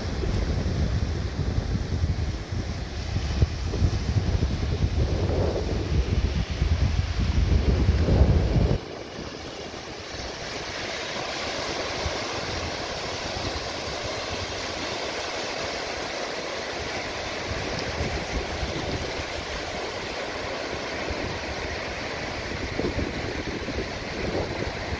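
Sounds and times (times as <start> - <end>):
wind buffeting microphone: 0.0 - 14.9, 16.8 - 24.9
surf washing up beach: 0.0 - 24.9.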